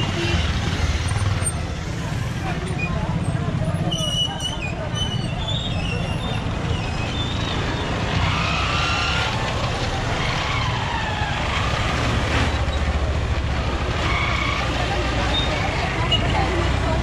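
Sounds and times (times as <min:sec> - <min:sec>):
traffic engine rumble: 0:00.0 - 0:17.0.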